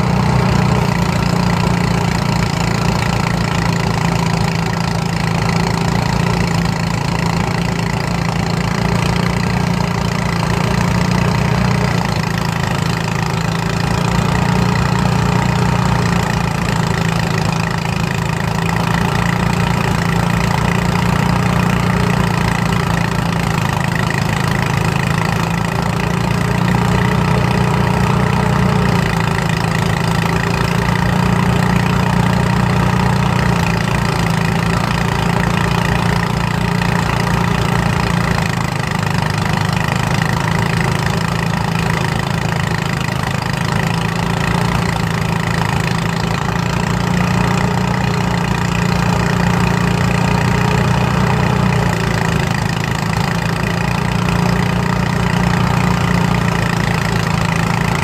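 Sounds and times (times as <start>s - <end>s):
rice threshing machine running: 0.0s - 58.0s.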